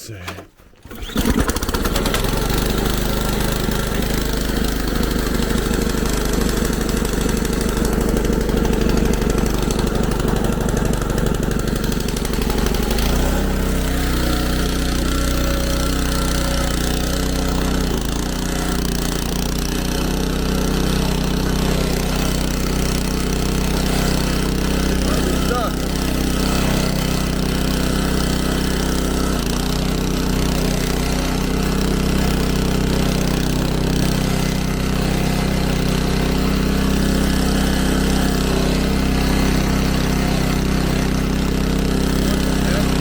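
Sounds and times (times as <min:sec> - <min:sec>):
muffled snowblower engine running: 0:00.8 - 0:43.0.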